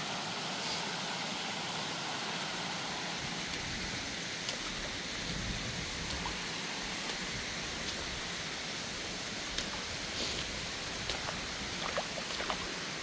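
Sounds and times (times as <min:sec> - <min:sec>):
creek water running over cascades: 0:00.0 - 0:13.0.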